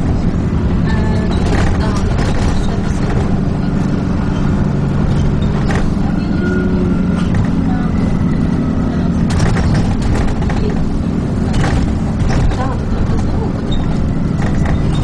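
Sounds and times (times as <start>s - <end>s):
bus body rattles and knocks: 0.0s - 15.0s
bus engine running: 0.0s - 15.0s.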